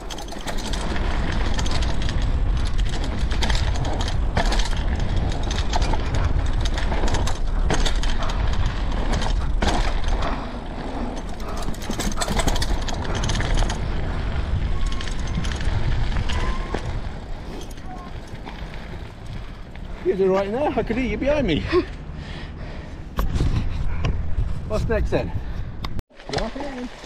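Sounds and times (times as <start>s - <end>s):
wind rumbling on microphone: 0.0s - 21.4s, 22.2s - 27.0s
mountain bike rattling on rough trail: 0.0s - 22.0s, 26.1s - 27.0s.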